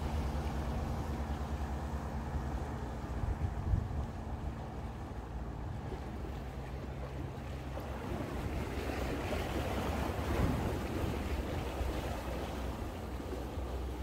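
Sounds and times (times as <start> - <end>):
boat engine humming: 0.0 - 14.0
waves splashing against rocks: 0.0 - 14.0.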